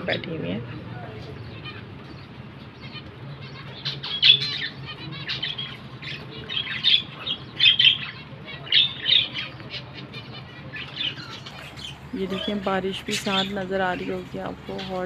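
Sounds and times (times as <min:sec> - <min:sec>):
finches chirping and squeaking: 0:00.0 - 0:15.0.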